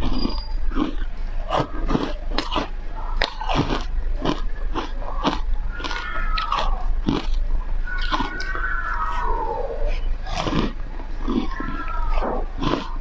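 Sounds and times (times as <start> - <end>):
ice crunching while chewed: 0.0 - 13.0.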